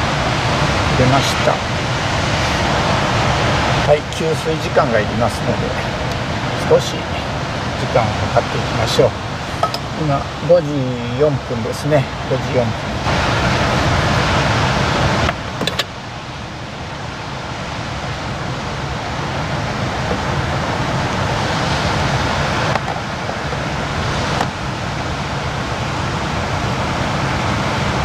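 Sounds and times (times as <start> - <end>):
surf from rough sea waves: 0.0 - 28.0.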